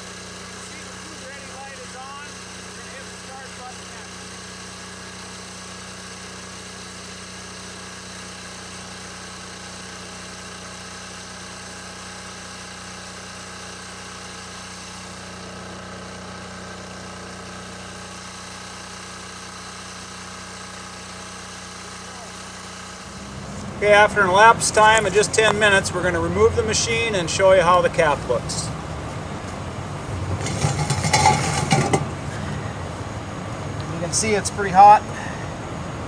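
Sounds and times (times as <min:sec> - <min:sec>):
machine humming with steady tones: 0:00.0 - 0:36.0.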